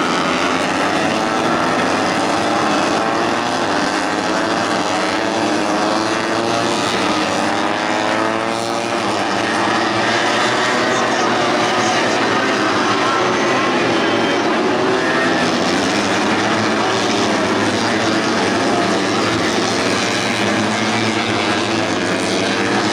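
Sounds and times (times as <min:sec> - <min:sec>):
racing motorcycles at high revs: 0:00.0 - 0:22.9.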